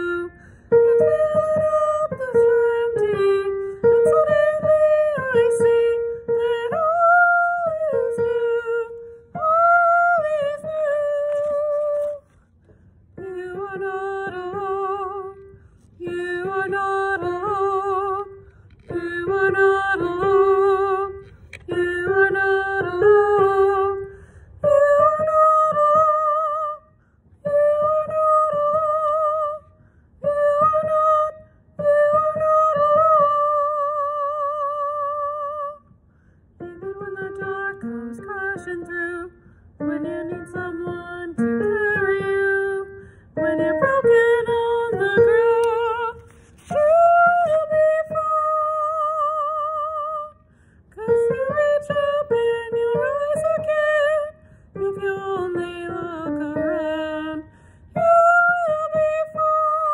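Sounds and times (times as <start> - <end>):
woman singing with vibrato: 0.0 - 12.3, 13.2 - 35.9, 36.6 - 59.9.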